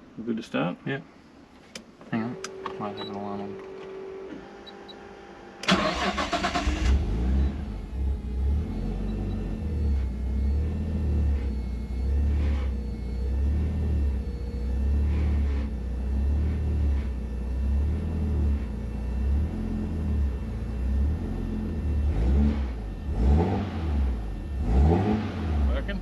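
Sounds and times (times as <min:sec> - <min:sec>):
car engine idling and revving: 0:01.7 - 0:26.0.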